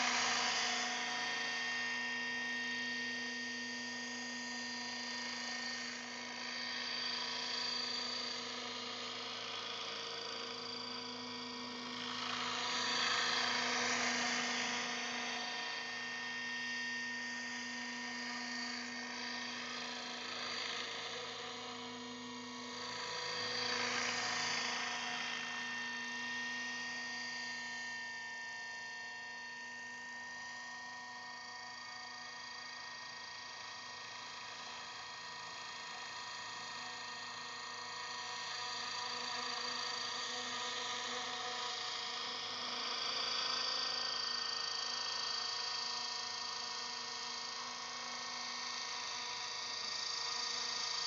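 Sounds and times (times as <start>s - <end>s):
model helicopter rotor whine: 0.0s - 51.0s.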